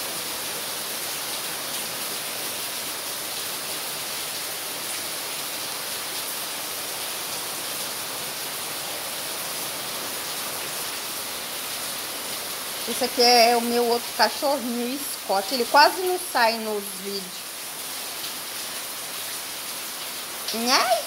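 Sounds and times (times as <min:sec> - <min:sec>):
heavy rain on pavement: 0:00.0 - 0:21.0.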